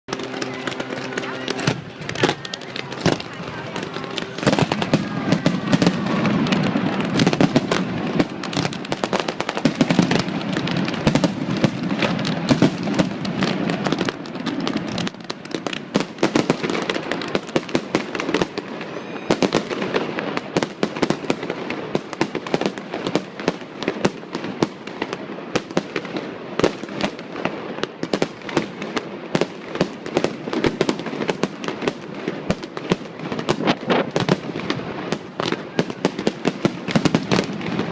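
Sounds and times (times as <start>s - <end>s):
fireworks bangs and crackles: 0.1s - 37.9s.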